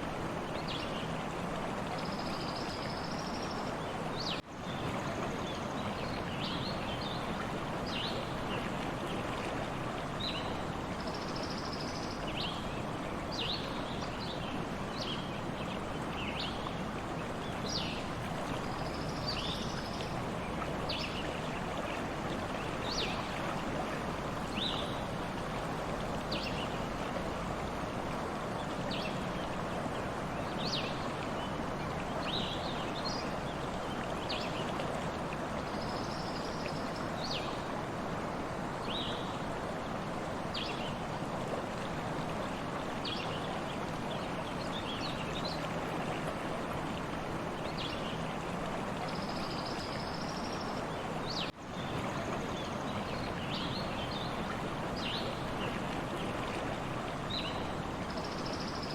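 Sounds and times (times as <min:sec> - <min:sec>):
stream running: 0:00.0 - 0:58.9.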